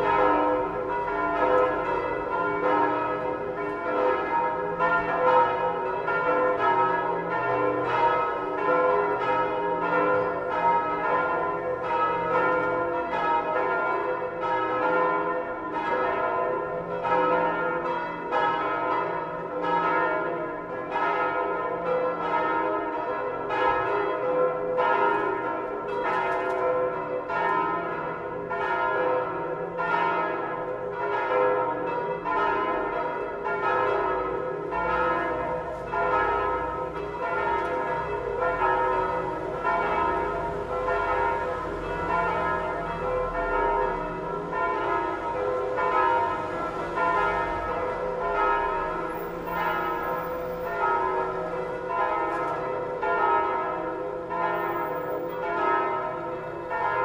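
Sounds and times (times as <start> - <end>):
church bells pealing: 0.0 - 57.0.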